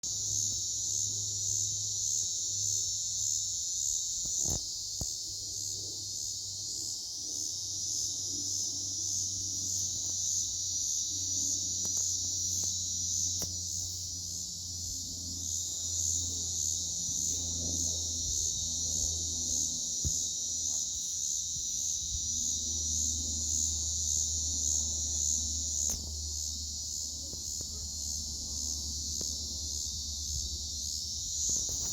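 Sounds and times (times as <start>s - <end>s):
insects buzzing trill: 0.0s - 31.9s.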